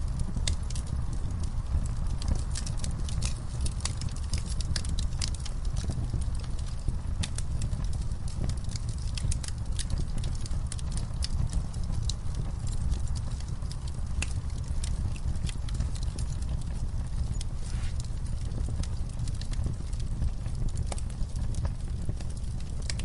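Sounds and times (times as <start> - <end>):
burning wood crackling and popping: 0.0 - 23.0
campfire flames rumbling: 0.0 - 23.0.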